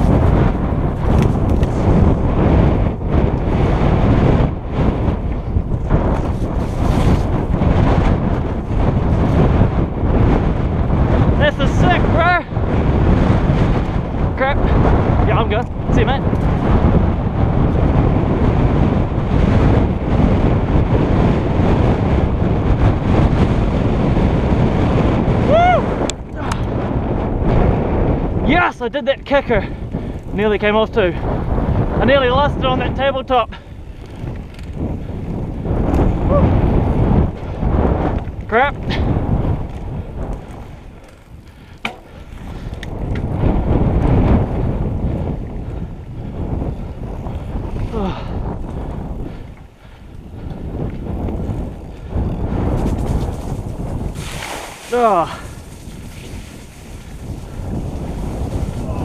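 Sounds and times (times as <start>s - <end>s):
mountain bike tyres and rattle: 0.0s - 59.0s
wind rush on microphone: 0.0s - 59.0s.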